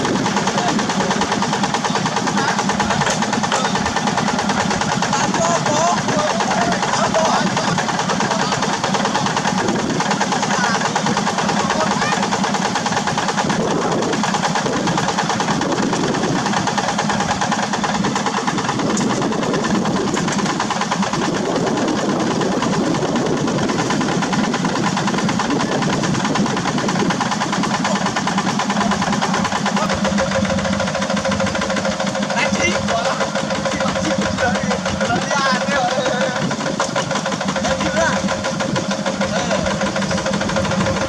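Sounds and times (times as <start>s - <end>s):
diesel tractor engine running: 0.0s - 41.0s.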